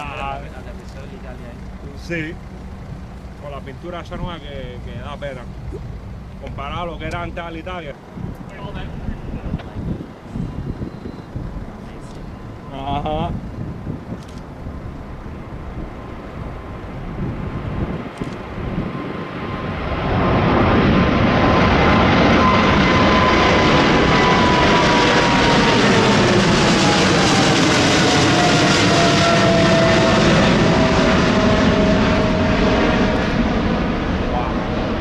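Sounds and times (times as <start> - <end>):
jet airliner passing: 0.0 - 35.0
jet engine whine: 0.0 - 35.0.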